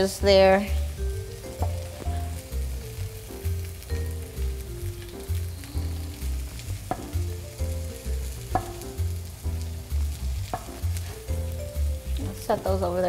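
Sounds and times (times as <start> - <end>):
background music with bass line: 0.0 - 13.0
greens sizzling in a pan: 0.0 - 13.0.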